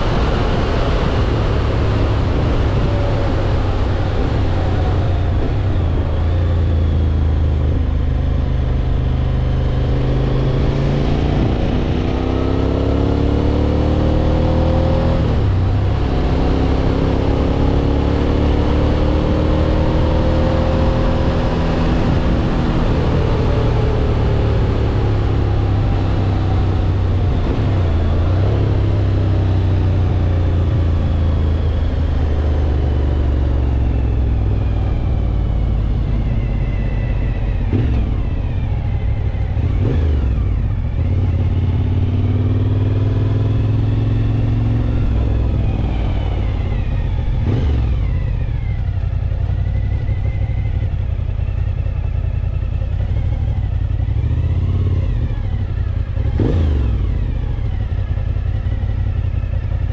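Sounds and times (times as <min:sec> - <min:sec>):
motorcycle engine: 0:00.0 - 0:59.9
wind and road noise: 0:00.0 - 0:59.9.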